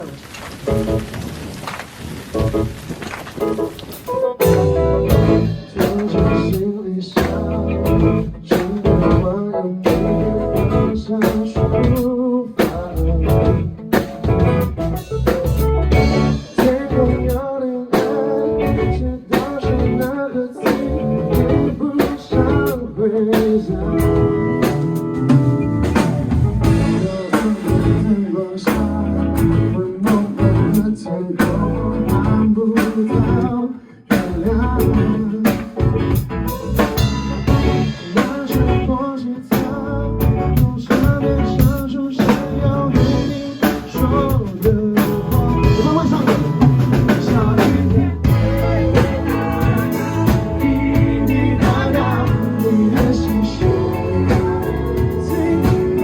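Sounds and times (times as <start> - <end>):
live band playing: 0.0 - 1.2, 2.3 - 56.0
person singing: 4.4 - 13.8, 15.9 - 36.0, 37.3 - 56.0.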